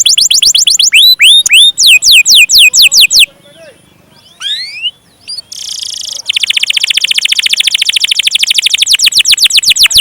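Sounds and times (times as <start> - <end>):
canary singing trills: 0.0 - 10.0.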